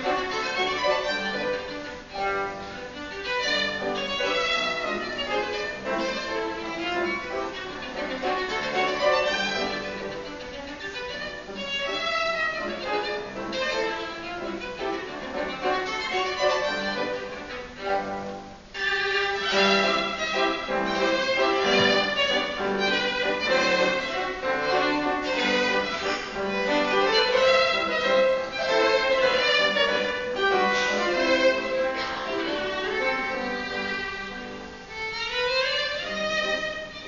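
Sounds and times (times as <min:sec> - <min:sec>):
piano accompaniment: 0:00.0 - 0:37.0
violin melody: 0:00.0 - 0:37.0.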